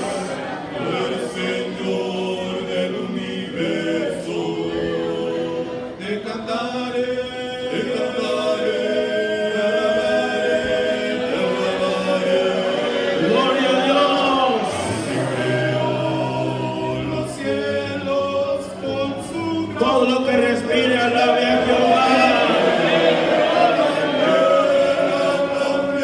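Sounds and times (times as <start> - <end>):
congregation singing: 0.0 - 26.0.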